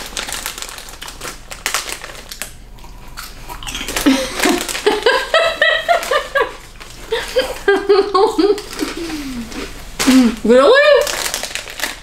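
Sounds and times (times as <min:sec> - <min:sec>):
crispy snack being chewed: 0:00.0 - 0:07.7, 0:08.4 - 0:12.0
foil snack bag crinkling: 0:00.0 - 0:12.0.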